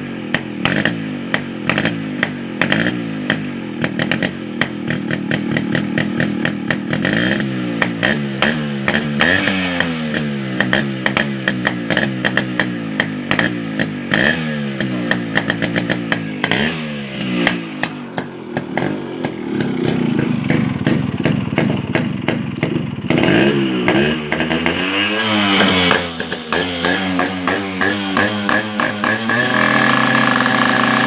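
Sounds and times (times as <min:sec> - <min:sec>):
two-stroke engine idling and revving: 0:00.0 - 0:31.0.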